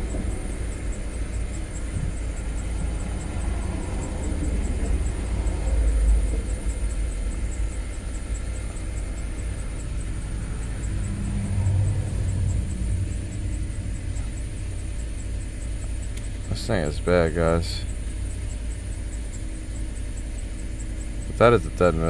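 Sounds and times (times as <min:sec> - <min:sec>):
car engine idling rough: 0:00.0 - 0:22.0.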